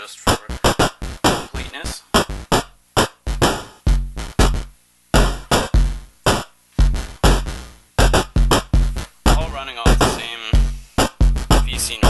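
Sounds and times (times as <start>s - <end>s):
synthesized hi-hats: 0.0s - 12.0s
analog bass drum thumping: 0.3s - 12.0s.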